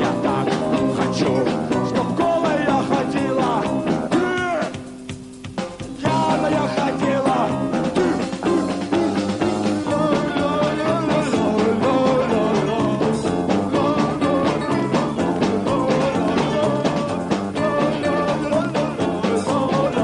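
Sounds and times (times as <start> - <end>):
bass guitar: 0.0 - 20.0
drums: 0.0 - 20.0
electric guitar: 0.0 - 20.0.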